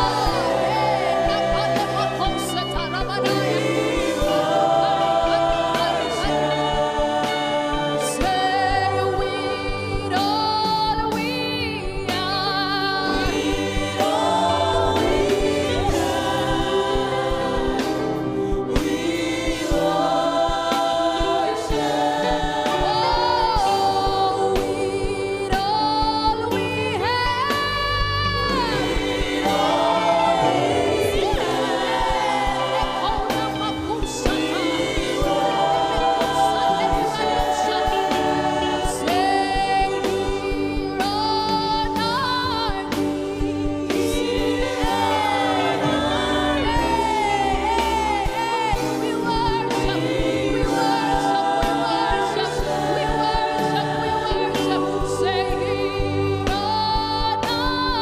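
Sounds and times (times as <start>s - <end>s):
band playing gospel music: 0.0s - 58.0s
voices singing together: 0.0s - 58.0s.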